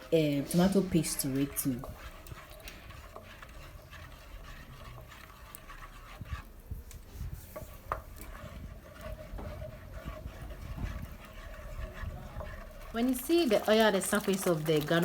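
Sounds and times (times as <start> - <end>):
spoon stirring thick paste: 0.0 - 15.0.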